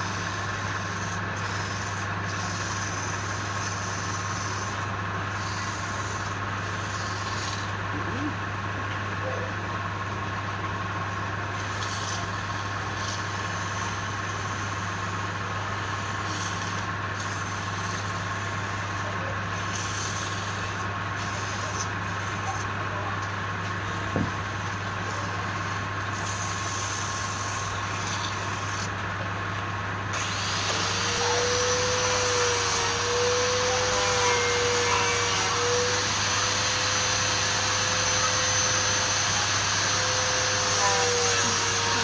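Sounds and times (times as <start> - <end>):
lathe motor hum: 0.0 - 9.0, 9.6 - 42.0.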